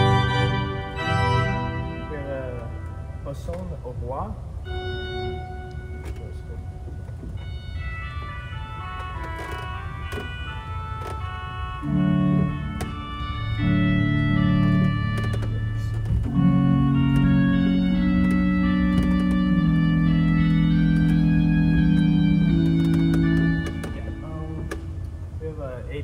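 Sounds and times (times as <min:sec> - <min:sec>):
pipe organ sustained chords: 0:00.0 - 0:26.0.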